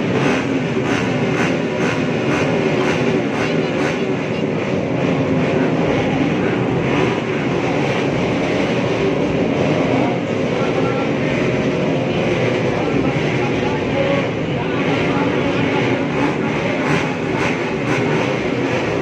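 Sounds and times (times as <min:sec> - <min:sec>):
small motorcycle engines running: 0:00.0 - 0:19.0.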